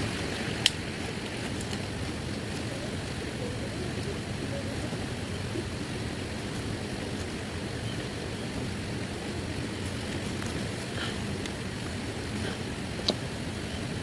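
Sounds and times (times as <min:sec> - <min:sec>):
faint ticks of raindrops: 0:00.0 - 0:14.0
heavy rain: 0:00.0 - 0:14.0.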